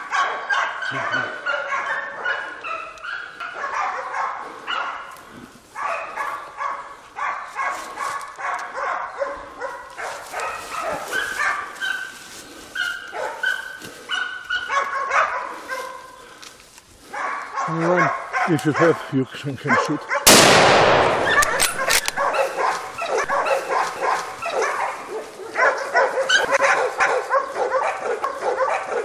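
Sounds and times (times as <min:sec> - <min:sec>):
dogs barking and baying: 0:00.0 - 0:20.3, 0:21.0 - 0:29.0.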